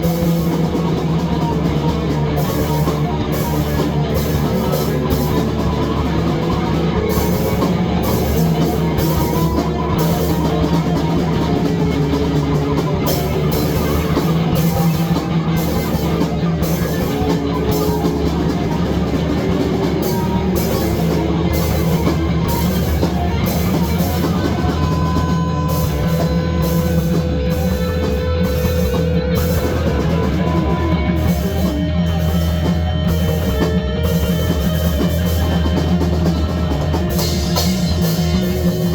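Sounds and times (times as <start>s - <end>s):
loud rock music: 0.0s - 38.9s.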